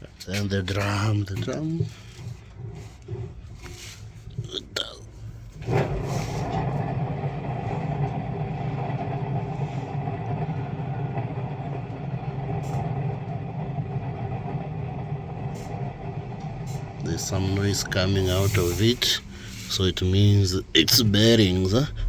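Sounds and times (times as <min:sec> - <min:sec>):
washing machine drum bearings rumbling: 0:00.0 - 0:22.0.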